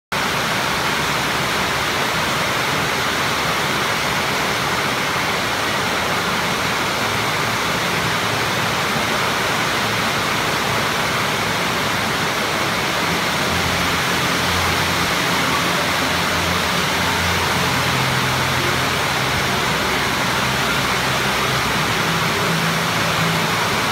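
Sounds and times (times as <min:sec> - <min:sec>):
loud rushing noise: 0:00.2 - 0:23.9.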